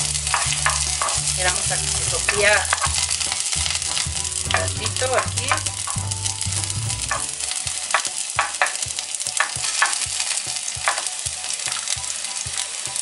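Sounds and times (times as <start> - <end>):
onion sizzling in hot oil: 0.0 - 13.0
spoon scraping a pan: 0.1 - 12.0.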